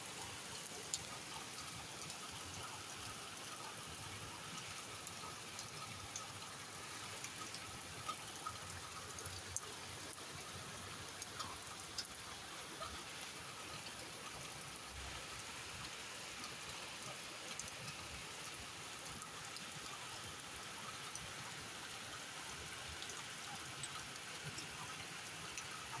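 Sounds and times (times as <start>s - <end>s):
raindrops hitting surfaces: 0.0s - 26.0s
steady rain hiss: 0.0s - 26.0s.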